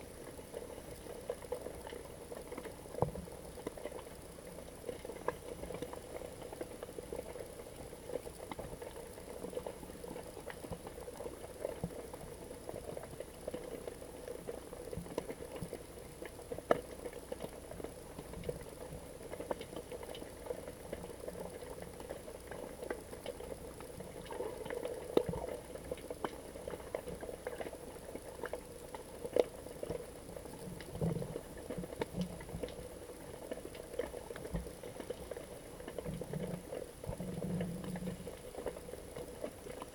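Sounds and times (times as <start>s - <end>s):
muffled underwater wash: 0.0s - 39.9s
small clicks and crackles: 0.0s - 39.9s.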